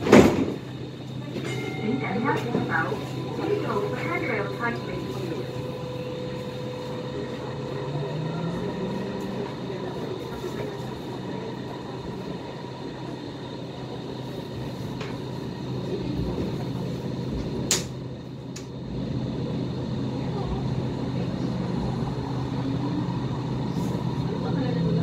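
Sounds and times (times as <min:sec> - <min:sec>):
tram motors and wheels rumbling: 0:00.0 - 0:25.0.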